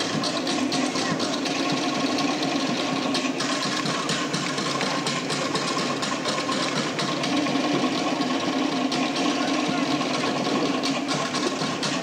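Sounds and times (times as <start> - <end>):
fast drumming: 0.0 - 12.0.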